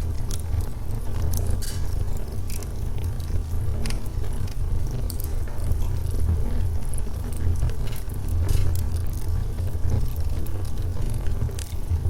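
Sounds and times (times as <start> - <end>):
fire crackling and popping: 0.0 - 12.0
low rumble of flames: 0.0 - 12.0.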